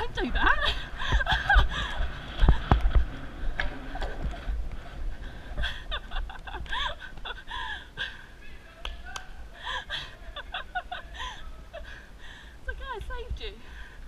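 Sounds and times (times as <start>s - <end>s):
low rumble: 0.0s - 13.4s.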